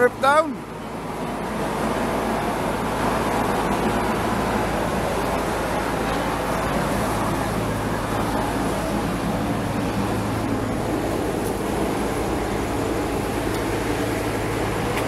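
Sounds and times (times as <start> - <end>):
demolition machinery rumble: 0.0 - 15.0
road traffic: 0.0 - 15.0.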